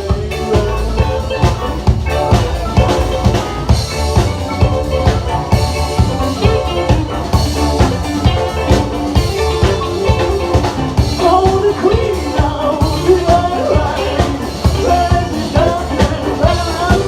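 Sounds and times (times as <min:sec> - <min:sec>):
drum kit beating: 0:00.0 - 0:17.0
rock band playing: 0:00.0 - 0:17.0
wavering melodic lead line: 0:00.0 - 0:17.0.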